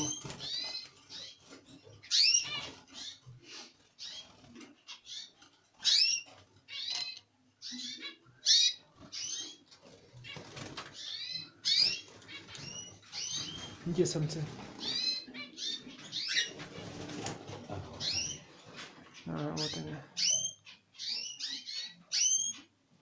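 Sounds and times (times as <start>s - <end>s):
canaries chirping: 0.0s - 23.0s.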